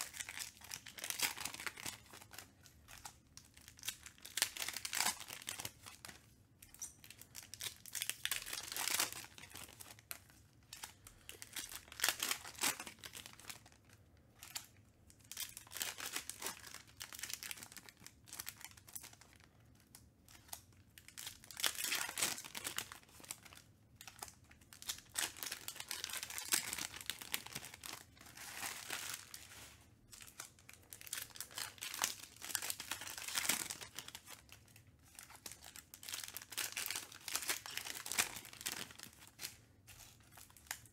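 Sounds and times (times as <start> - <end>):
foil wrappers tearing and crinkling: 0.0 - 13.7, 14.5 - 19.4, 20.4 - 40.9.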